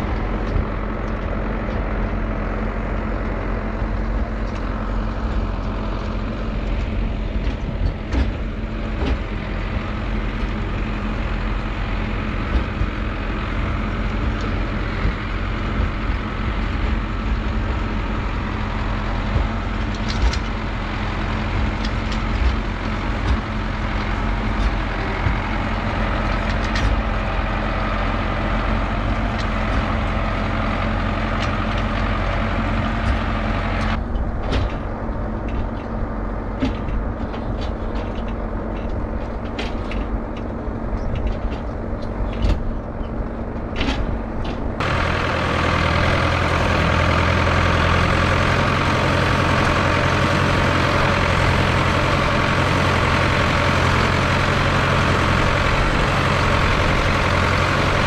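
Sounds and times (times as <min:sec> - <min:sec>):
tractor diesel engine running: 0:00.0 - 0:58.0
knocks and rattles: 0:02.9 - 0:58.0.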